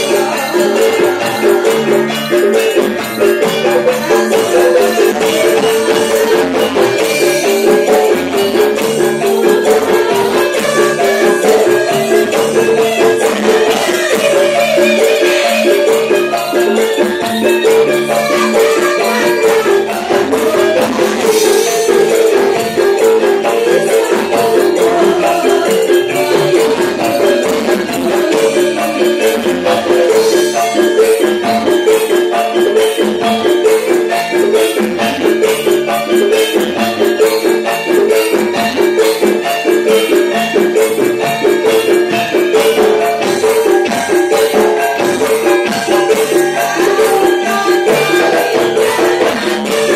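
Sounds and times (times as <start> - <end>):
gamelan ensemble playing: 0.0 - 49.9.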